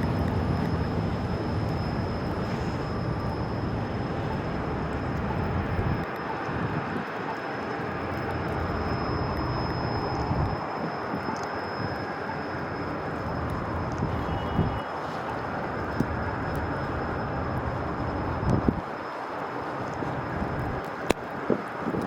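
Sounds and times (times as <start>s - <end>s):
passing traffic rumble: 0.0s - 21.8s.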